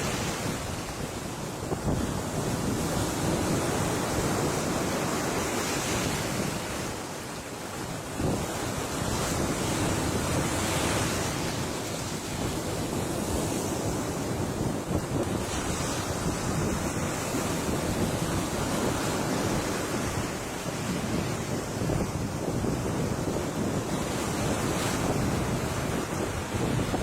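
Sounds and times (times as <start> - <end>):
ocean waves crashing: 0.0 - 27.0
wind buffeting microphone: 0.0 - 27.0.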